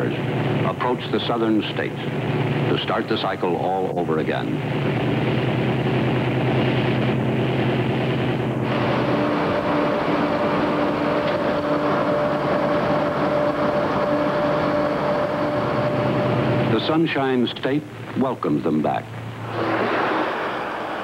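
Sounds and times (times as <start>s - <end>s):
car cabin engine drone: 0.0s - 21.0s.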